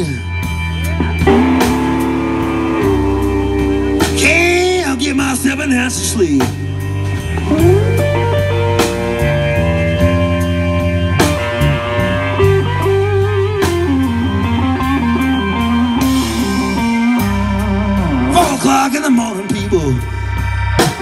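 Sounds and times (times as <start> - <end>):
bass line: 0.0 - 21.0
drums with cymbal strokes: 0.0 - 21.0
electric guitar lead lines: 0.0 - 21.0.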